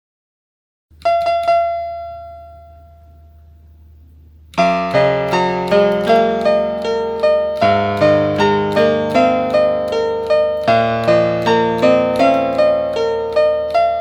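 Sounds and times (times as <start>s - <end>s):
piano chords and melody: 1.0s - 3.4s, 4.5s - 14.0s
piano notes ringing: 1.0s - 3.9s, 4.5s - 14.0s.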